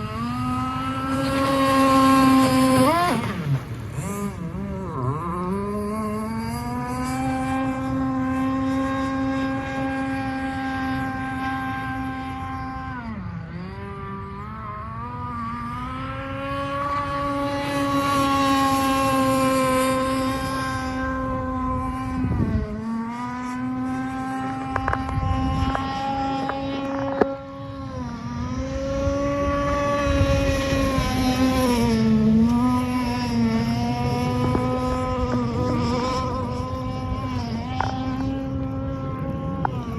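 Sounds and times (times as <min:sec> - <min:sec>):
rc boat engine buzzing: 0:00.0 - 0:39.9.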